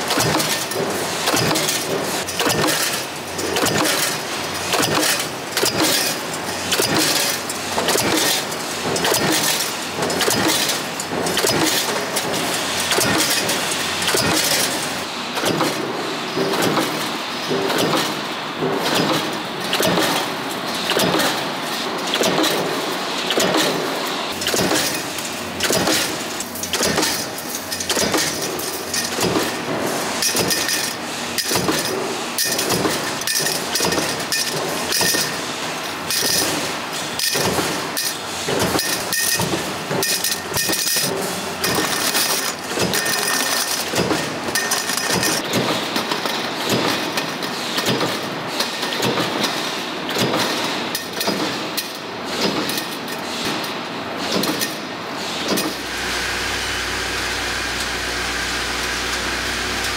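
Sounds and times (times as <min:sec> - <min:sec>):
factory machinery clattering: 0:00.0 - 0:59.9.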